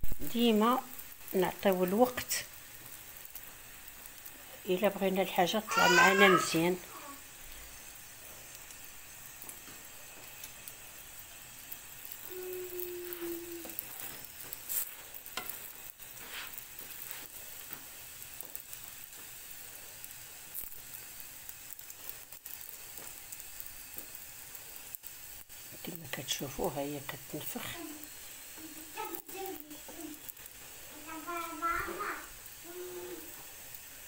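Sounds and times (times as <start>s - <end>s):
flatbread sizzling in a pan: 0.0s - 34.0s.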